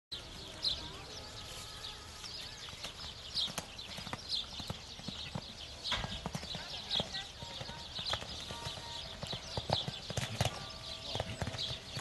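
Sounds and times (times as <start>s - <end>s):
hoofbeats on sand: 2.2s - 12.0s.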